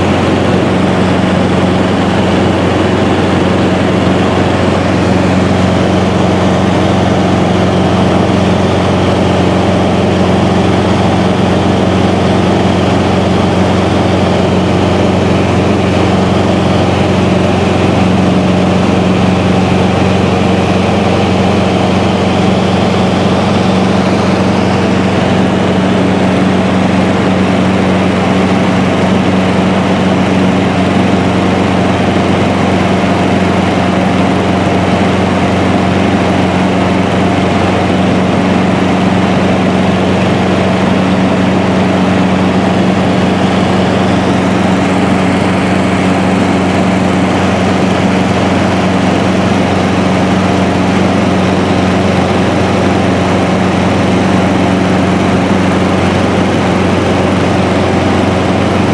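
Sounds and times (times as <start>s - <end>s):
light aircraft engine in cabin: 0.0s - 58.9s.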